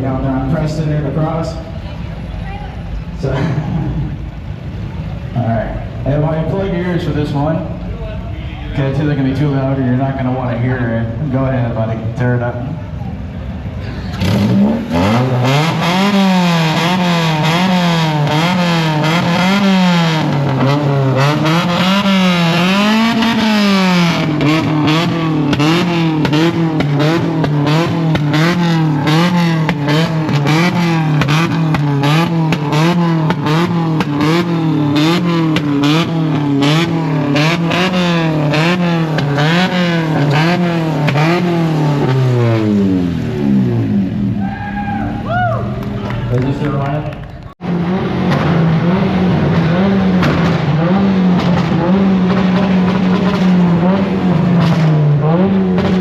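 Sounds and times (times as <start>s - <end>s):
car engine revving: 0.0s - 56.0s
exhaust crackles: 0.0s - 56.0s.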